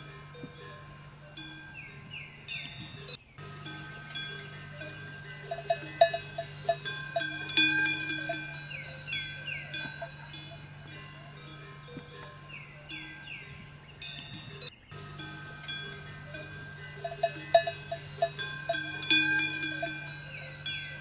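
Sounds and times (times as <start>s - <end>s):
animal bells clanking: 0.0s - 21.0s
steady low hum: 0.0s - 21.0s.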